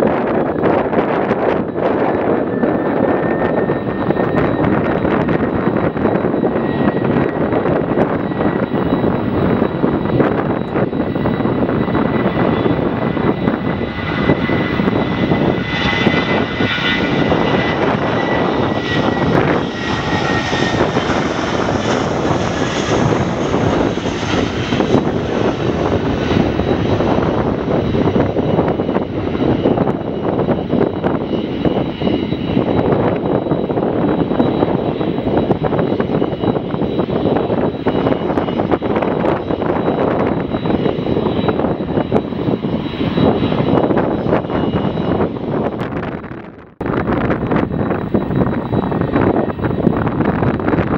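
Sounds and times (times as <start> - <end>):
jet engines roaring: 0.0 - 50.9.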